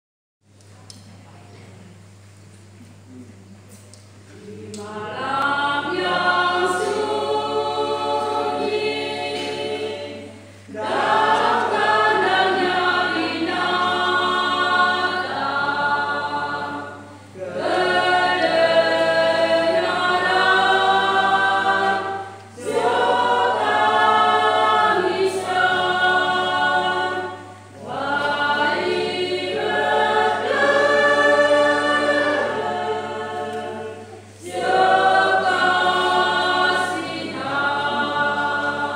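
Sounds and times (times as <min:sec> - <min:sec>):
choir singing a hymn unaccompanied: 0:04.3 - 0:38.9.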